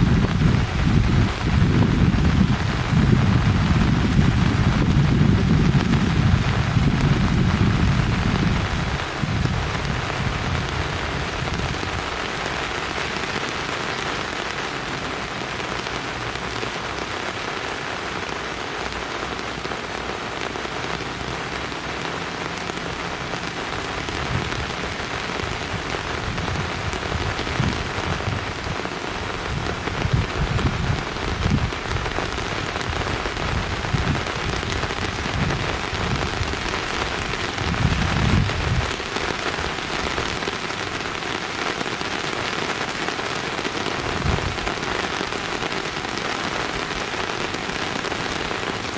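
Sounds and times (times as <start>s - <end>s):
rain hissing: 0.0s - 48.9s.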